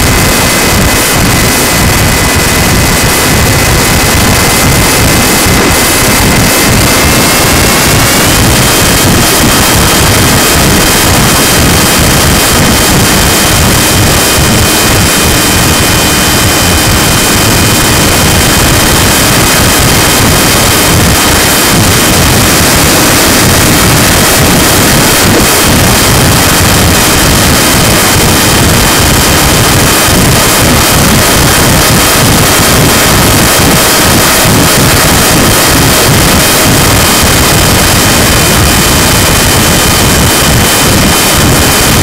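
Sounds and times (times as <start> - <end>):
rushing wind noise: 0.0 - 42.0.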